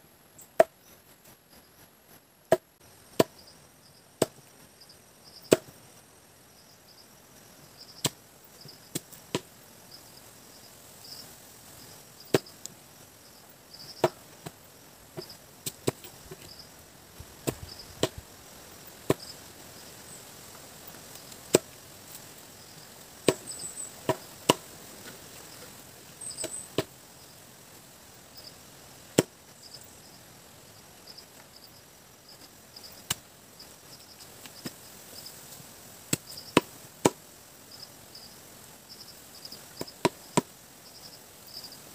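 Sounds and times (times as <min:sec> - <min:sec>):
insects chirping: 0:00.4 - 0:41.9.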